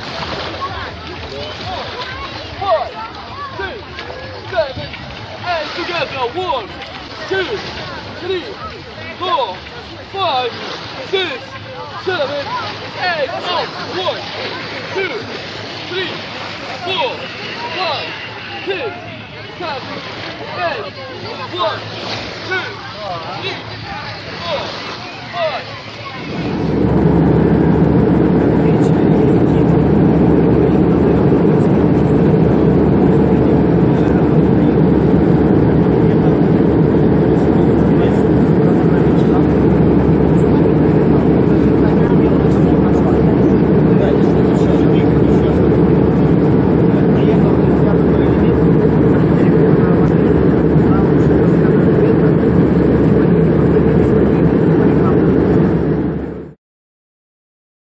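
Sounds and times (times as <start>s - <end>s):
airliner cabin engine rush: 0.0s - 56.6s.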